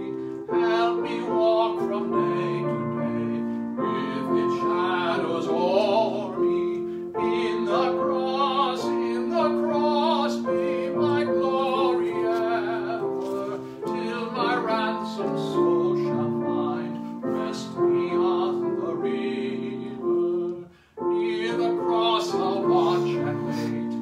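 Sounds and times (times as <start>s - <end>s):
person singing a hymn: 0.0s - 24.0s
piano accompaniment: 0.0s - 24.0s.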